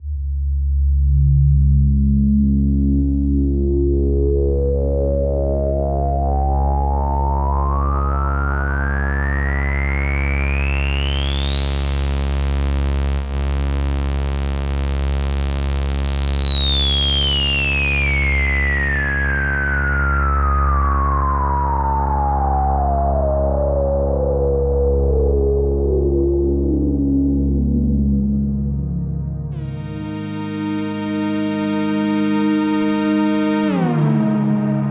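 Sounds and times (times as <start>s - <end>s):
synthesizer filter sweep on drone: 0.0s - 34.9s.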